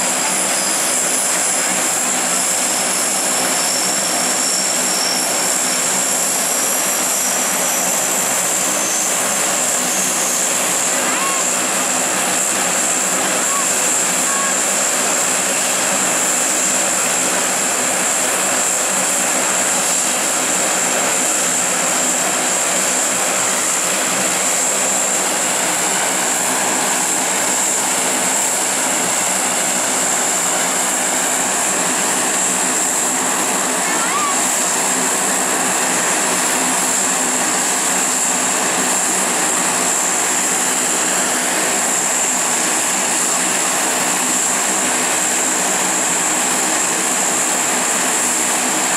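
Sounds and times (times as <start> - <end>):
high-pitched turbine whine: 0.0 - 48.9
low propeller hum: 0.0 - 48.9.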